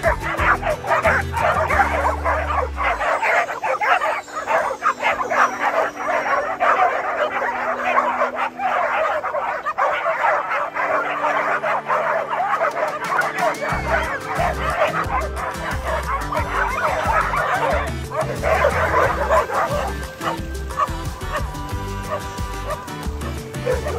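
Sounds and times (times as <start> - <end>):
background music: 0.0 - 23.9
dogs barking and yipping: 0.0 - 23.9.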